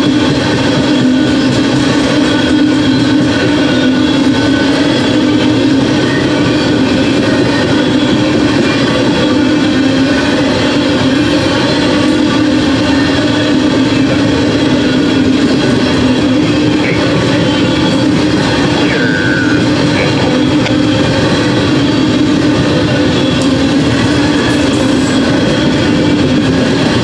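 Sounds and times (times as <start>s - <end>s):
freight train rolling on rails: 0.0s - 27.0s
train wheel squeal: 0.0s - 27.0s.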